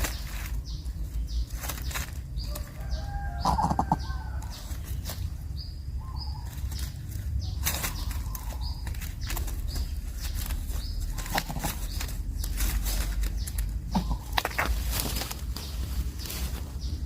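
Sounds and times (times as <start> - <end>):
rustling and wing flutters: 0.0 - 5.5, 6.4 - 17.0.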